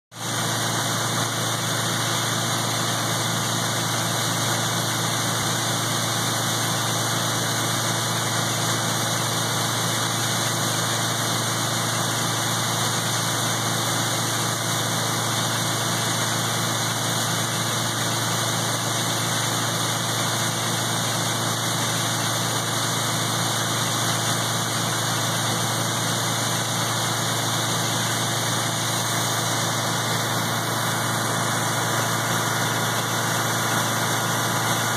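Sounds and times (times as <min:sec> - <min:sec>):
tractor driving feed grinder: 0:00.1 - 0:34.9.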